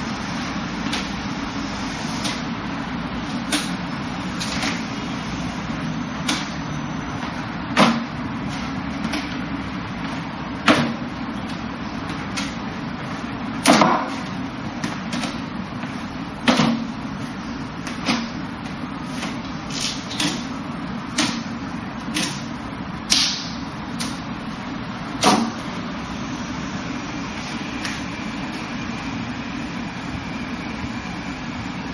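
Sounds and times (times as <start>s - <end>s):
background hum and hiss: 0.0s - 31.9s.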